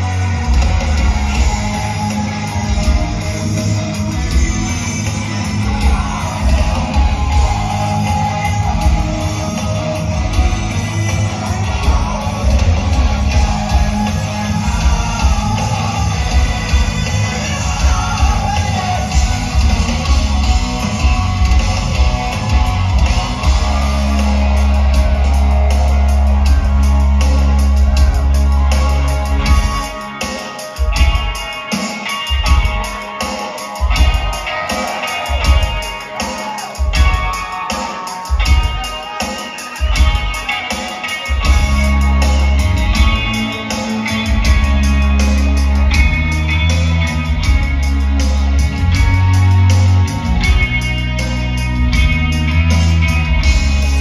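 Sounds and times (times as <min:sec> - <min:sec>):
distorted electric guitars: 0:00.0 - 0:54.0
drums: 0:00.0 - 0:54.0
live rock band playing: 0:00.0 - 0:54.0.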